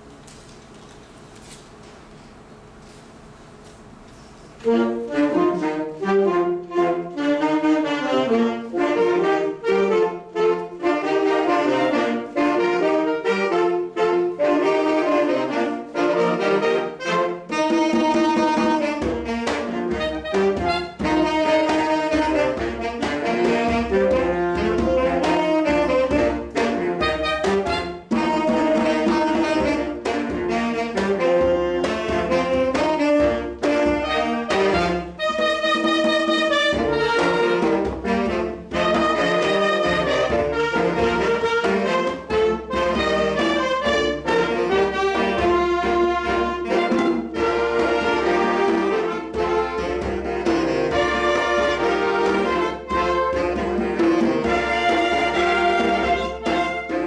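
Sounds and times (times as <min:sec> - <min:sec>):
saxophone ensemble playing: 0:04.6 - 0:57.0.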